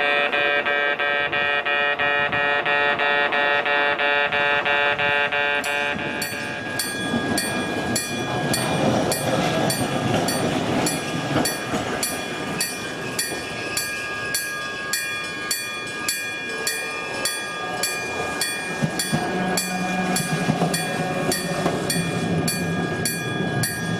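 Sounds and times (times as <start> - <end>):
level-crossing warning bell: 0.0 - 23.9
train wheels rumbling and clacking: 4.3 - 23.9.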